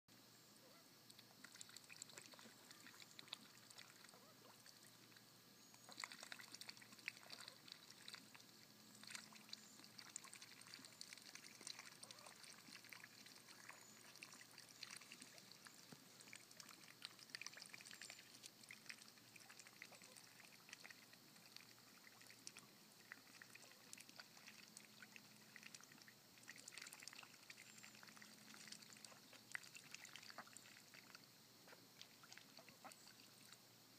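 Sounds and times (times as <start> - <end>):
ducks splashing in pond water: 0.6 - 33.6.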